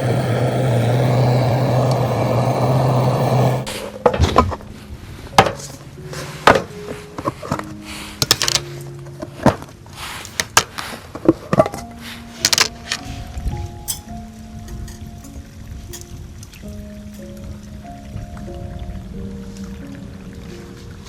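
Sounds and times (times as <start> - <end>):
soft background music: 3.2 - 21.0.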